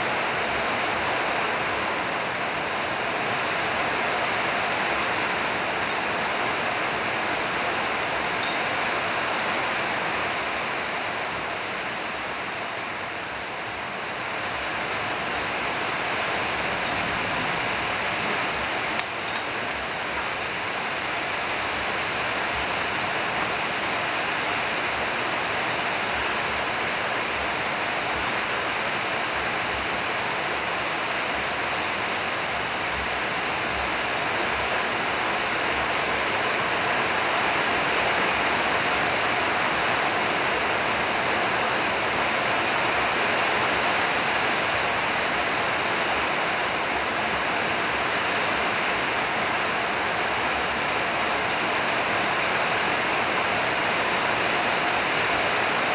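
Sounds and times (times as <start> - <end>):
steady rushing noise: 0.0 - 55.9.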